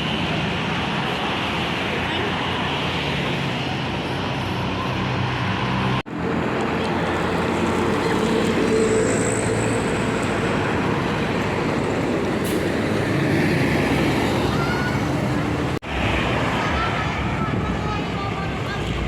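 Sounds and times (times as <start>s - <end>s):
bus passing: 0.0s - 19.0s.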